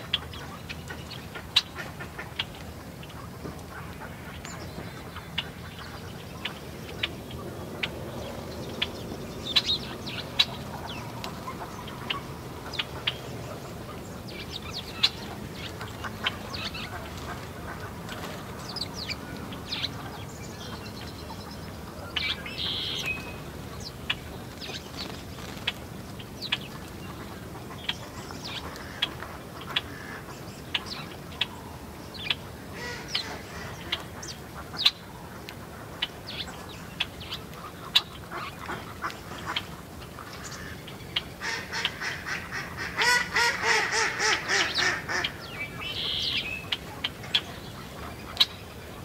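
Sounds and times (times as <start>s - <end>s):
small birds chirping: 0.0s - 42.6s.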